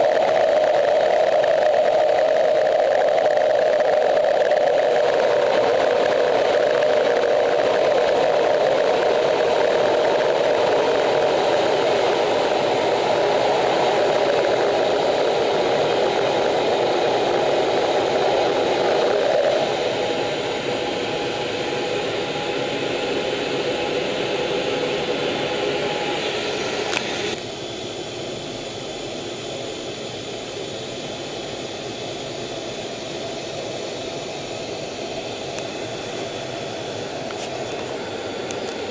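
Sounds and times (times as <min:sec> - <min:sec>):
jet engine and rushing air: 0:00.0 - 0:38.9.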